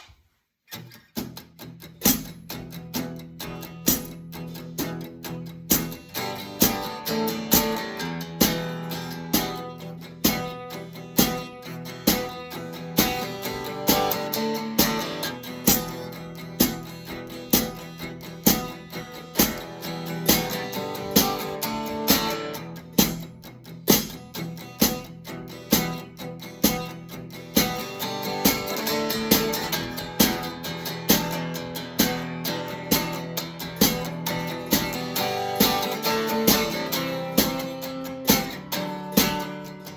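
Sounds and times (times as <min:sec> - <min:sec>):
guitar strumming: 0:00.7 - 0:39.9.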